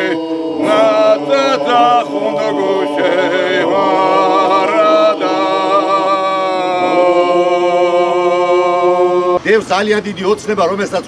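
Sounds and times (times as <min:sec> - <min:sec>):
male choir singing a cappella: 0:00.0 - 0:09.4.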